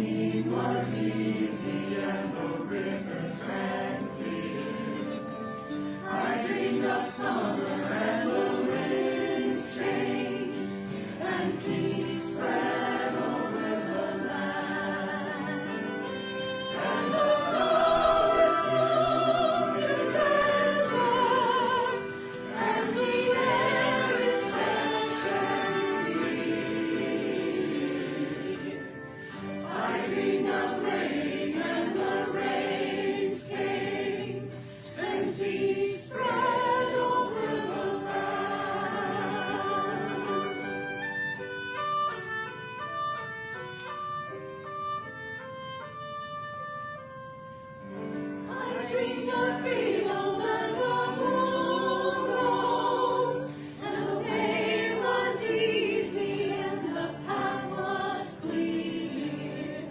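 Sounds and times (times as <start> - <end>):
choir singing: 0.0 - 41.9, 47.8 - 59.9.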